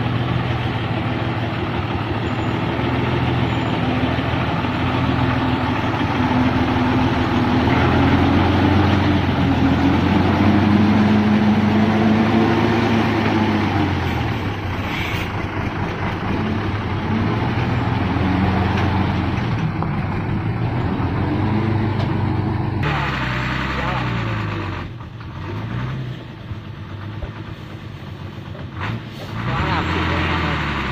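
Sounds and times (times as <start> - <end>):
diesel truck engine revving: 0.0 - 30.9.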